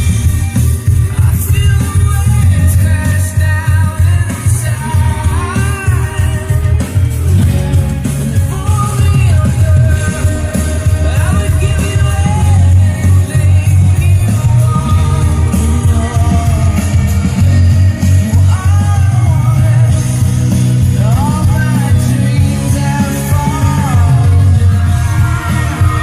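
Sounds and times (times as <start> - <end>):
rock song with singing: 0.0 - 26.0.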